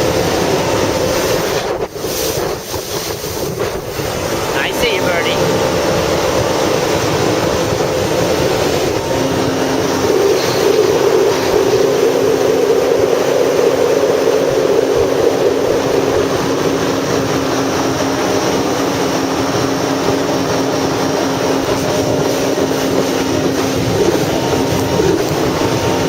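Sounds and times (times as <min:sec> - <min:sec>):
jet ski engine droning: 0:00.0 - 0:26.0.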